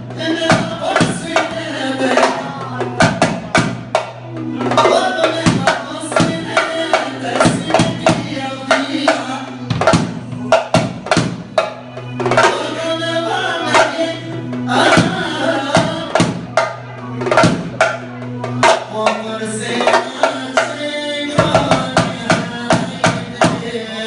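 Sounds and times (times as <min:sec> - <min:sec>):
drum and percussion strikes: 0:00.0 - 0:24.0.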